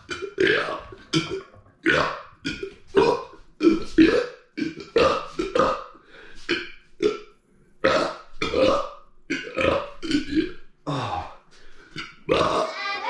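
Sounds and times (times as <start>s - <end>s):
man burping loudly: 0.0s - 12.7s.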